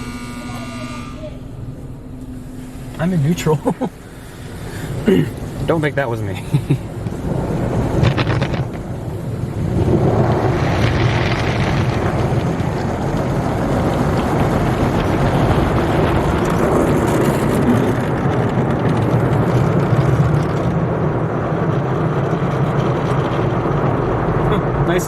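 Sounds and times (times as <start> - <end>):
low motor hum: 0.0 - 24.9.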